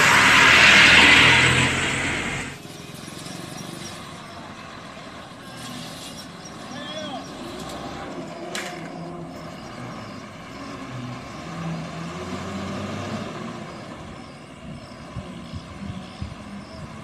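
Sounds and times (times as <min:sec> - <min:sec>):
road traffic noise: 0:00.0 - 0:17.0
truck engine passing: 0:00.0 - 0:17.0.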